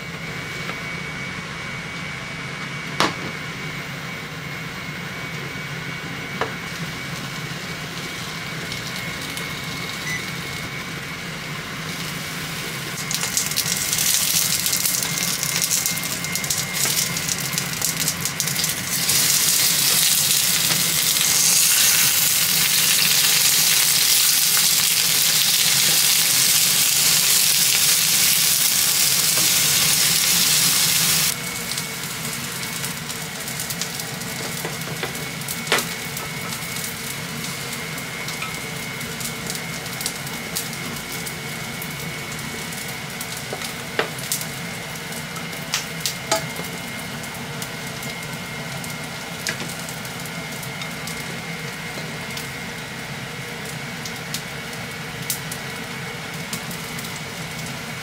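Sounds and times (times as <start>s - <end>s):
onions sizzling in a pan: 5.2s - 58.0s.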